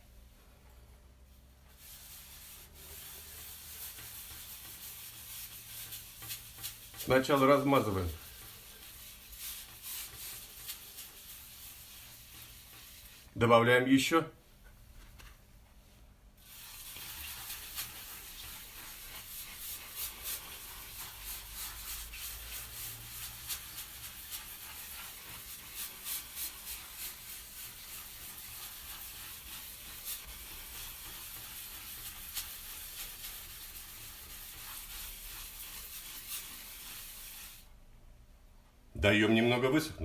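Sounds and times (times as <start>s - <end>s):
sponge scrubbing glass: 1.7s - 13.4s, 16.4s - 37.7s.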